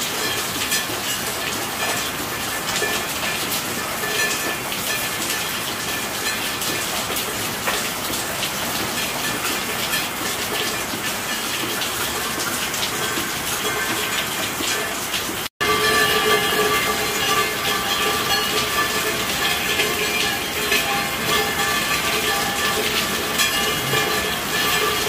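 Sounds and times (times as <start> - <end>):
rain hissing: 0.0 - 25.0.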